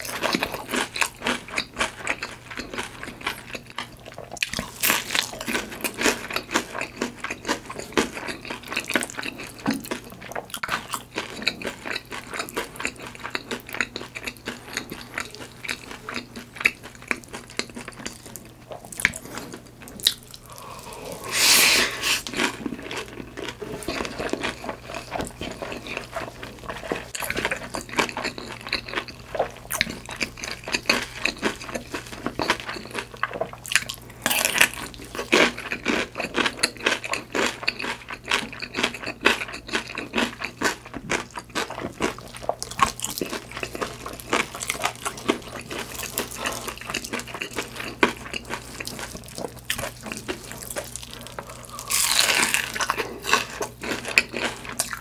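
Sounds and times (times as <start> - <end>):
chewing food: 0.0 - 55.0.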